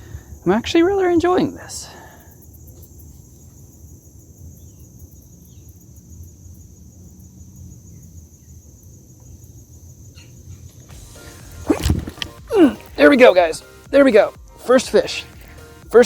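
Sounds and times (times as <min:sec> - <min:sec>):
crickets droning: 0:00.0 - 0:15.8.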